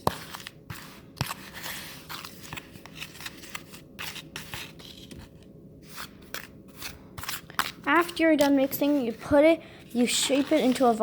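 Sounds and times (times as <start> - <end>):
paste stirred in a bowl: 0.0 - 11.0.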